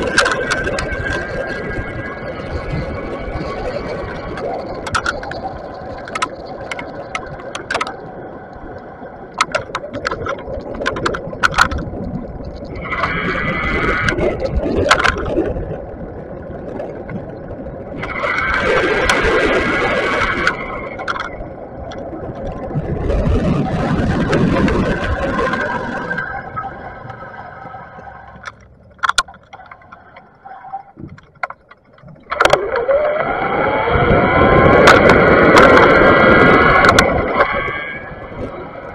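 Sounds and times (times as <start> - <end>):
bike clicks and rattles: 0.0 - 33.4, 34.0 - 37.6
road and wind noise: 0.0 - 38.9.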